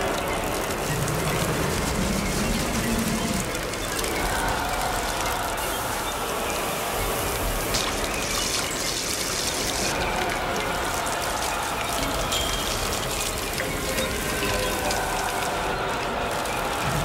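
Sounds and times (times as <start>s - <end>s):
liquid gushing and trickling: 0.0s - 17.0s.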